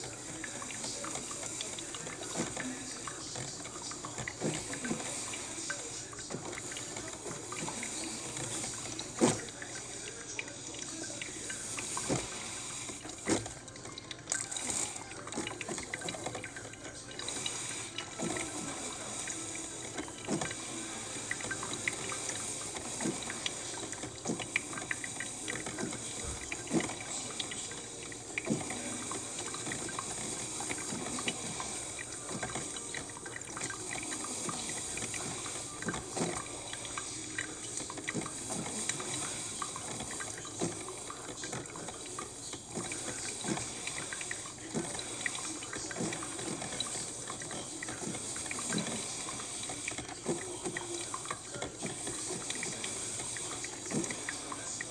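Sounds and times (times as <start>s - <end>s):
coffee maker hissing and gurgling: 0.0s - 54.9s
water running into carafe: 0.0s - 54.9s.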